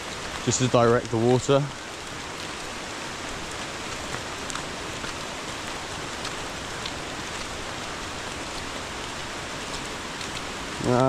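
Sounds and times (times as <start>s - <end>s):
faint drip-like ticks: 0.0s - 11.0s
running water hiss: 0.0s - 11.0s.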